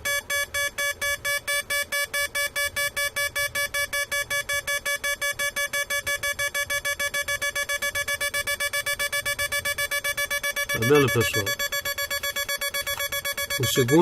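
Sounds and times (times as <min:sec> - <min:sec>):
buzzy square-wave beeps: 0:00.0 - 0:14.0.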